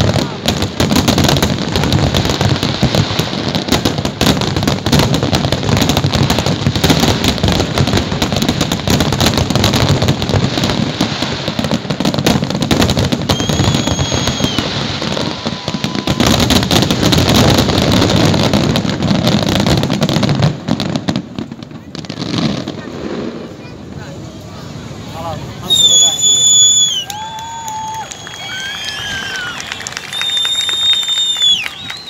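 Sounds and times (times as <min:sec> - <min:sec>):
fireworks crackling bangs: 0:00.0 - 0:32.0.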